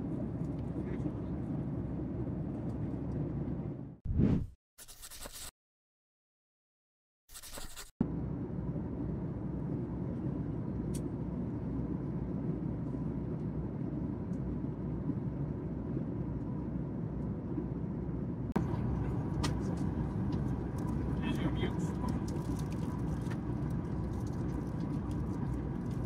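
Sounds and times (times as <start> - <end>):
airplane cabin rumble: 0.0 - 4.0, 8.0 - 26.0.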